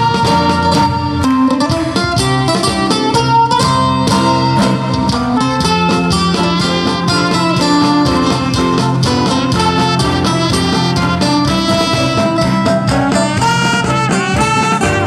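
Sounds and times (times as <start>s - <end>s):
trumpet melody: 0.0s - 1.3s, 4.2s - 15.0s
live band playing: 0.0s - 15.0s
strummed acoustic guitar: 0.0s - 15.0s.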